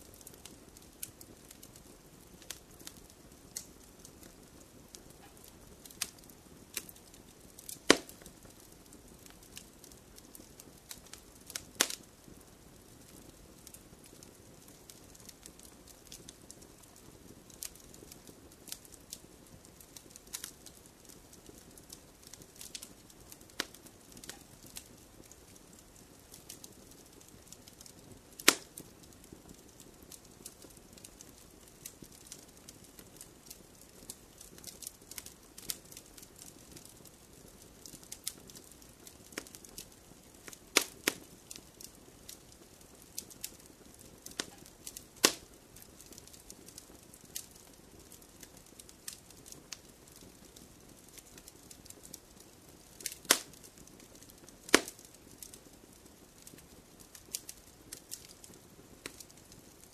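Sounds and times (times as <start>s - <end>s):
wood fire crackling: 0.0s - 59.9s
sharp snaps and pops: 0.1s - 12.2s, 12.8s - 59.9s.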